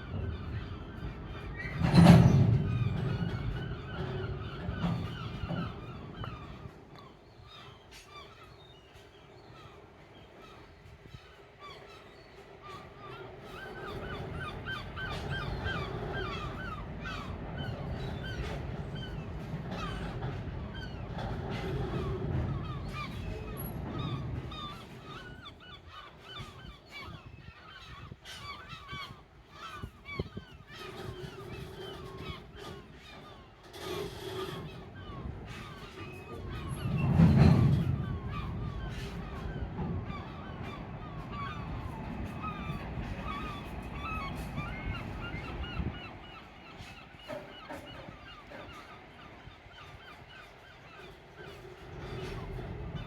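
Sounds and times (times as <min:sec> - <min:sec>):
freight train wagons rolling: 0:00.0 - 0:07.2, 0:12.4 - 0:25.8, 0:30.7 - 0:53.0.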